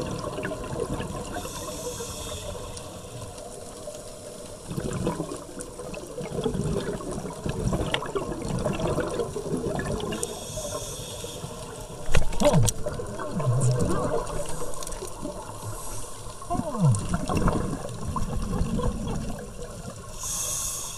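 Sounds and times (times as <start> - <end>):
underwater bubbling: 0.0 - 20.9.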